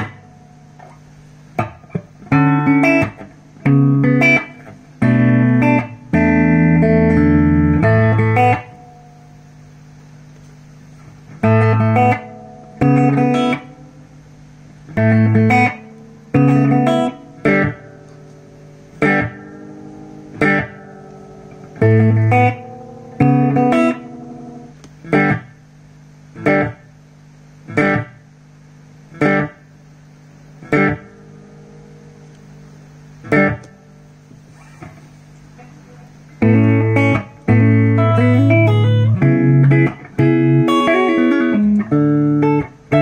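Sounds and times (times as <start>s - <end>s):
electric guitar chords and notes: 0.0s - 43.0s.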